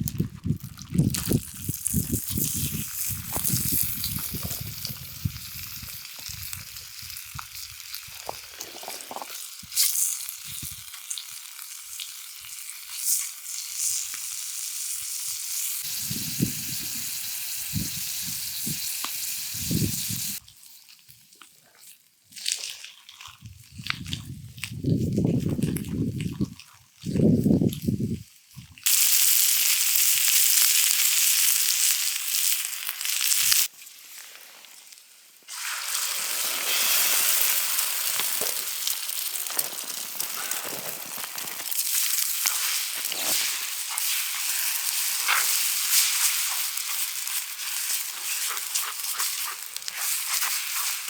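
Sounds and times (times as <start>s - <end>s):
eggs sizzling in a pan: 0.1s - 20.4s, 28.4s - 51.0s.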